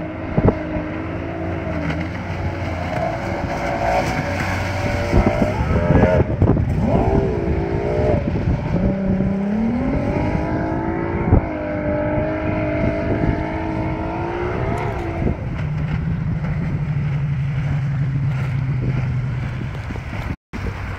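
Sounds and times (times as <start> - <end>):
powerboat engine passing: 0.0 - 20.9.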